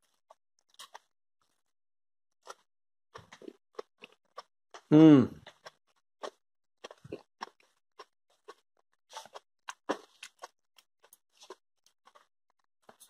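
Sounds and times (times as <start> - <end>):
person chewing crunchy food: 0.0 - 1.7, 2.4 - 13.0.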